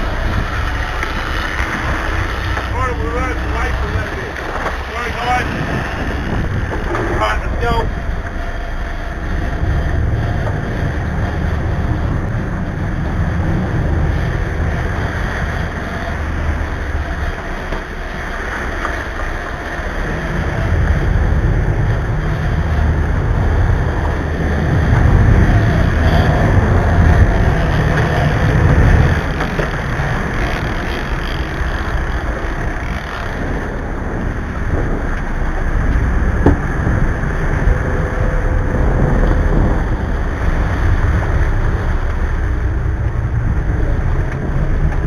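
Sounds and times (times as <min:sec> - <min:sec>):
boat engine rumble: 0:00.0 - 0:45.0
churning water rushing: 0:00.0 - 0:45.0
wind buffeting microphone: 0:00.0 - 0:45.0.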